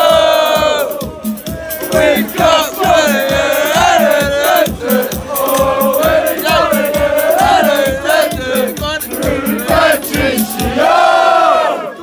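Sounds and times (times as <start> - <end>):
crowd singing a chant: 0.0 - 12.0.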